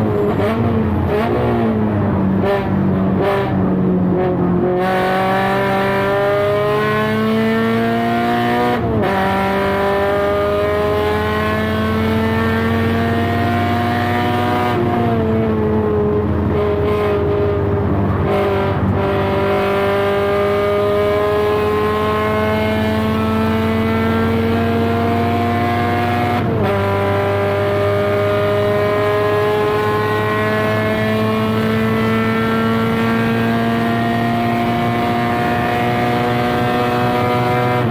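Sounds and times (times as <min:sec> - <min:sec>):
car engine revving hard: 0:00.0 - 0:37.9.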